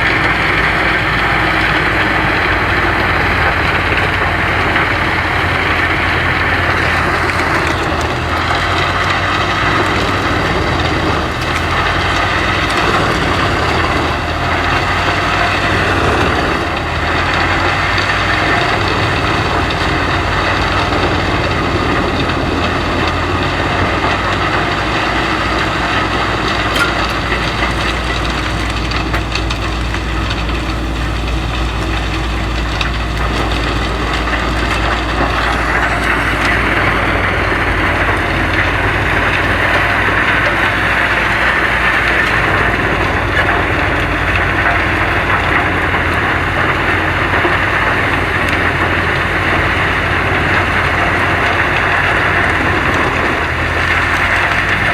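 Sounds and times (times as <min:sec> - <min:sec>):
wood crunching and splintering: 0:00.0 - 0:54.9
woodchipper engine hum: 0:00.0 - 0:54.9.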